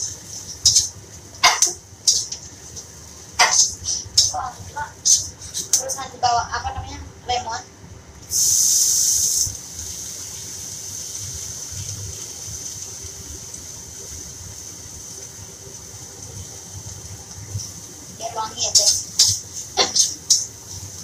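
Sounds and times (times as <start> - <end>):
sizzling in a hot wok: 0.0 - 6.5, 8.2 - 21.0.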